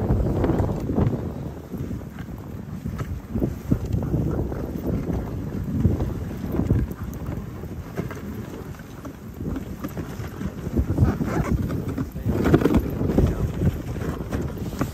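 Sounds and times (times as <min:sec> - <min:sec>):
sled runners crunching on snow: 0:00.0 - 0:14.9
wind buffeting microphone: 0:00.0 - 0:14.9.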